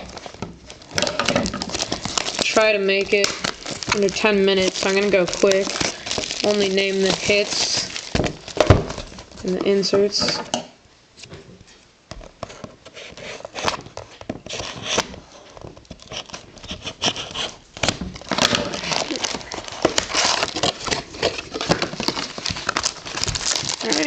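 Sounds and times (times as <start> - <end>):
card packs rustling and crinkling: 0.0 - 10.4, 12.2 - 24.0.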